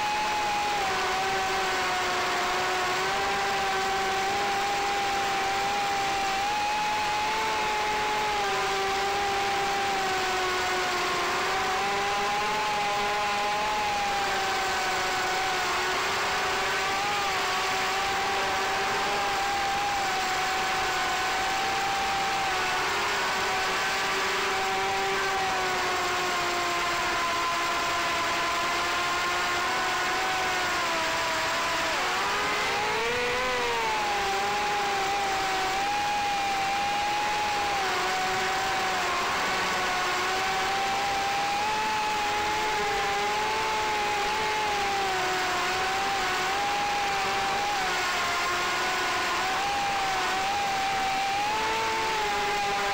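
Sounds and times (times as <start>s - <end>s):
drone motors whining: 0.0s - 52.9s.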